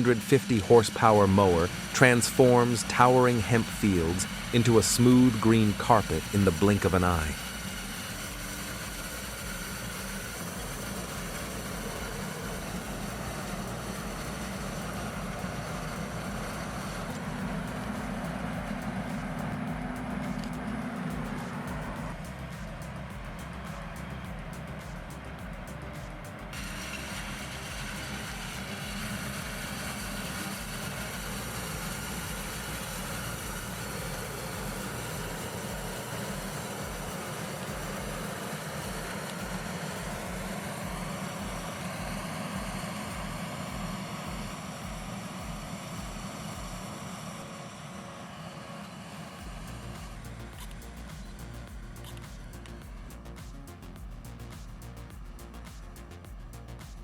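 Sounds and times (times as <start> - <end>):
heavy machine engine droning: 0.0 - 57.0.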